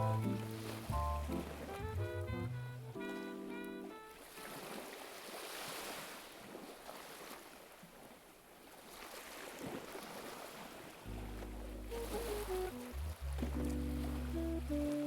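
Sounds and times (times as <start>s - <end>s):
sea water washing: 0.0s - 2.0s, 2.8s - 7.5s, 9.0s - 15.0s.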